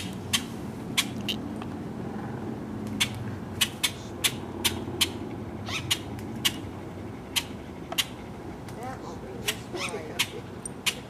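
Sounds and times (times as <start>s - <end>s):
steady low rumble: 0.1s - 10.9s.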